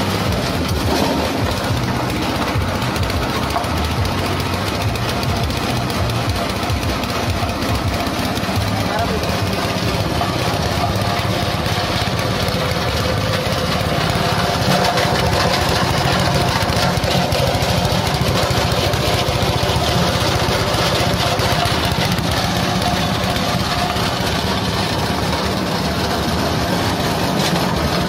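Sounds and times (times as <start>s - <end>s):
small engine running under load: 0.0s - 28.0s.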